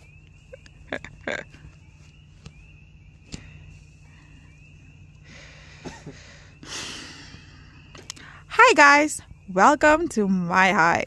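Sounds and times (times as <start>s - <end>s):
faint high chirps: 0.0s - 10.3s
low hum: 0.0s - 11.0s.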